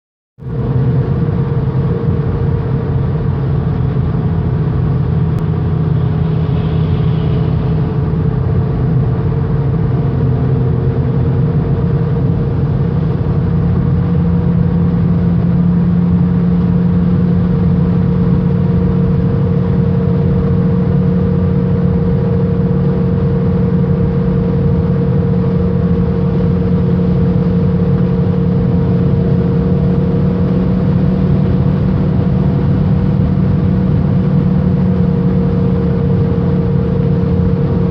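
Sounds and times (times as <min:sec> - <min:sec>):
car cruising with engine drone: 0:00.4 - 0:37.9
road noise: 0:00.4 - 0:37.9.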